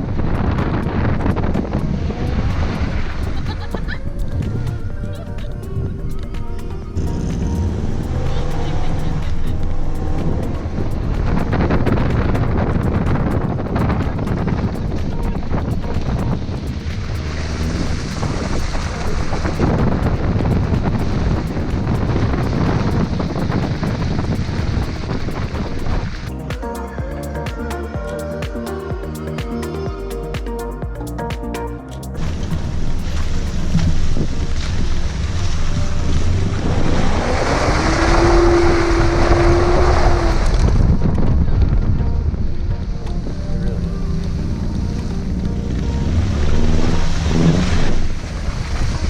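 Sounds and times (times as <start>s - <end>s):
wind buffeting microphone: 0.0s - 30.0s, 32.2s - 49.0s
music: 0.0s - 37.3s, 40.6s - 48.3s
steady held tone: 0.0s - 48.6s
vehicle rumble off-road: 0.0s - 49.0s.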